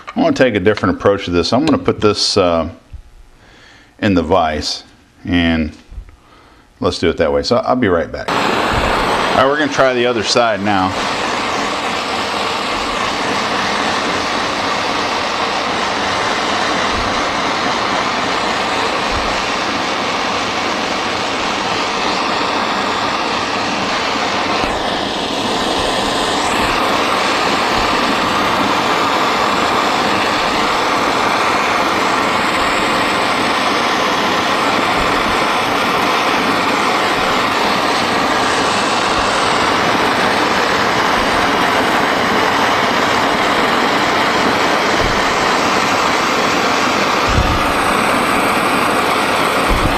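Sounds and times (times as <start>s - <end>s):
gas torch hissing: 5.9s - 49.9s.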